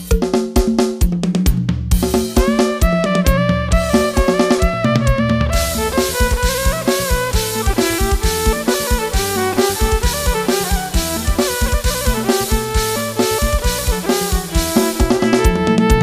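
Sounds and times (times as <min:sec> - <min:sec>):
loud music through speakers: 0:02.0 - 0:16.0.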